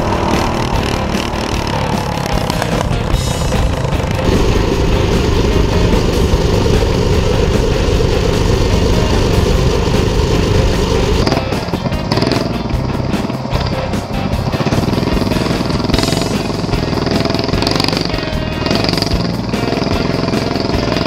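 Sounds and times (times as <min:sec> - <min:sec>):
background music: 0:00.0 - 0:21.0
small gasoline engine running: 0:00.0 - 0:21.0.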